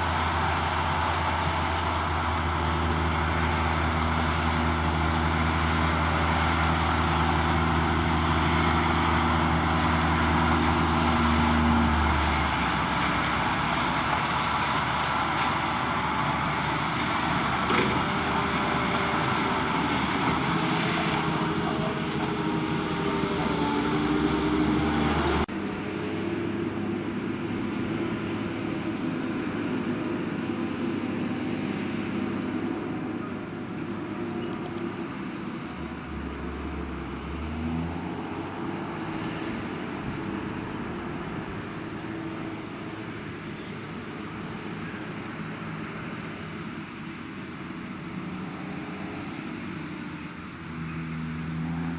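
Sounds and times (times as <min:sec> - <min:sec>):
heavy diesel engines: 0:00.0 - 0:51.9.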